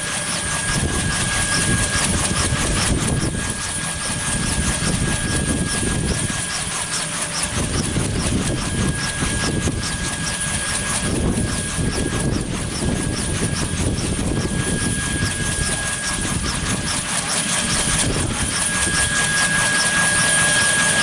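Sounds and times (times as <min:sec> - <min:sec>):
helicopter engine whine: 0:00.0 - 0:21.0
helicopter rotor rumble: 0:00.0 - 0:21.0.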